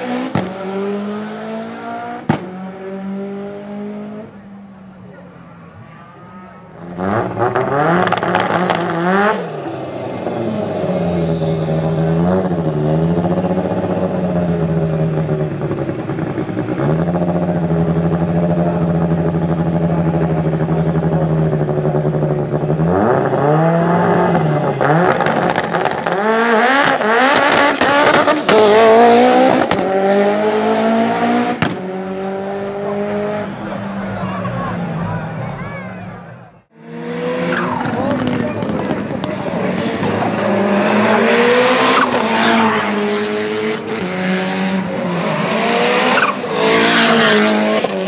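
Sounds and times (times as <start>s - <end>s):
drag racing car engine: 0.0s - 48.0s.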